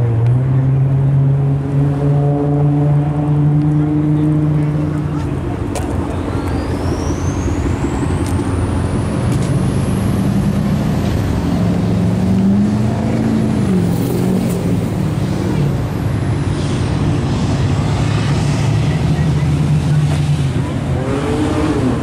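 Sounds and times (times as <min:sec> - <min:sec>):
car engines rumbling: 0:00.0 - 0:22.0
engine revving: 0:00.0 - 0:22.0.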